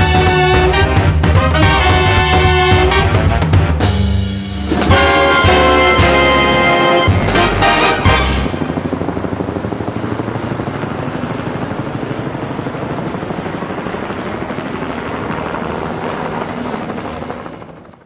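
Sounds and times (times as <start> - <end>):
helicopter rotor beating: 0.0 - 18.0.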